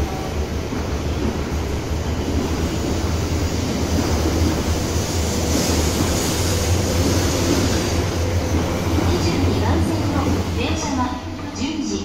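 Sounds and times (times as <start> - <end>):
train rumble and rushing hiss: 0.0 - 12.0.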